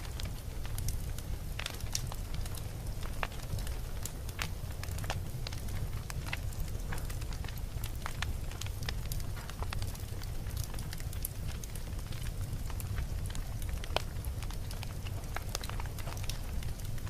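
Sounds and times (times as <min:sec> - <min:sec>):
campfire burning: 0:00.0 - 0:17.0
crackles and snaps of burning wood: 0:00.0 - 0:17.0.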